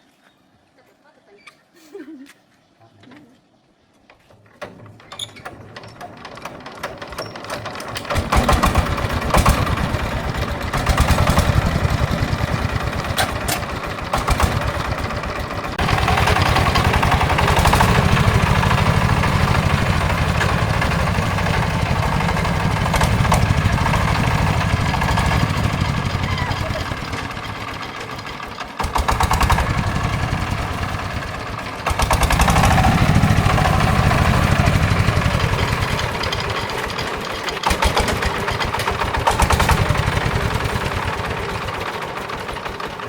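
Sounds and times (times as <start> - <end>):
tractor engine starting and running: 4.0 - 43.0.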